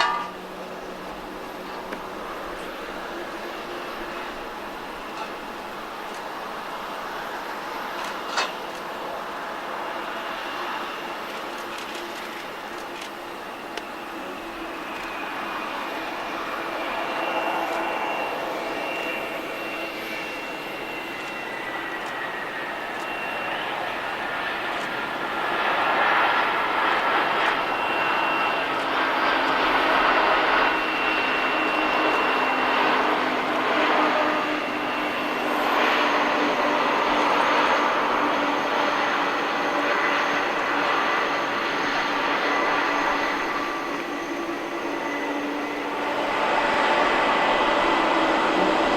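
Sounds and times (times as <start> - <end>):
high whining engine tones: 0.0 - 48.9
jet engines roaring: 0.0 - 48.9.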